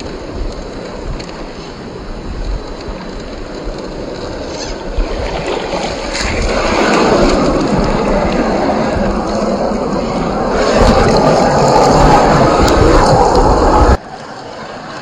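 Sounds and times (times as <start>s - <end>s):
shallow stream running: 0.0s - 15.0s.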